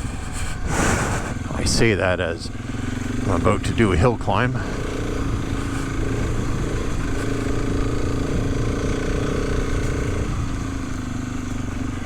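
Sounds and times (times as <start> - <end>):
motorcycle engine under load: 0.0 - 12.0.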